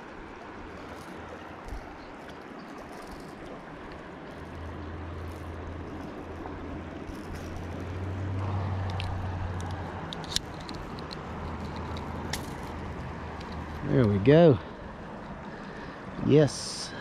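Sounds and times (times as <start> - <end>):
shallow river water rushing: 0.0 - 17.0.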